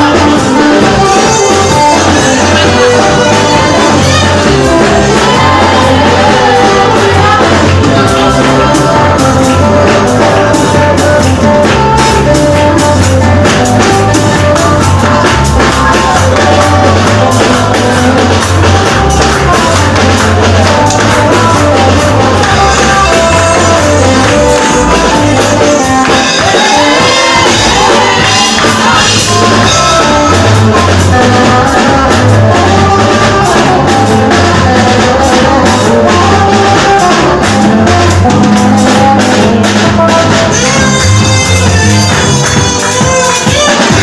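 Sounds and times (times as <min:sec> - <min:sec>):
bass line: 0:00.0 - 0:44.0
drum kit beat: 0:00.0 - 0:44.0
people singing: 0:00.0 - 0:44.0.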